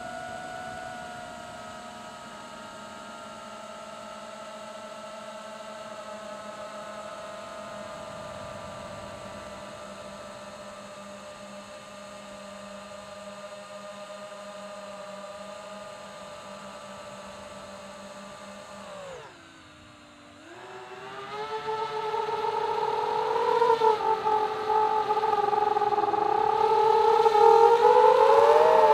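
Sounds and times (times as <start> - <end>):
model aircraft motor whining: 0.0 - 28.9.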